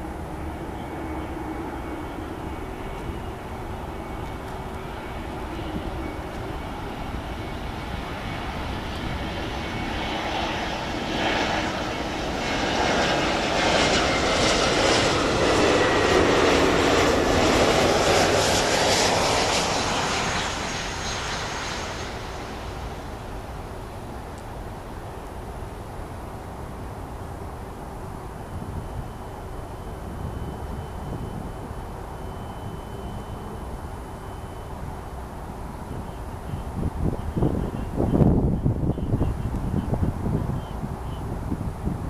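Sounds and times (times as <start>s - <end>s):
jet engines passing: 0.0s - 42.0s.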